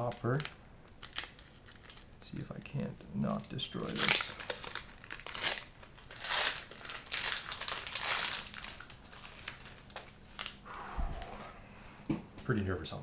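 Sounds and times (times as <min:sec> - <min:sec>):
foil wrapper crinkling: 0:00.0 - 0:10.6.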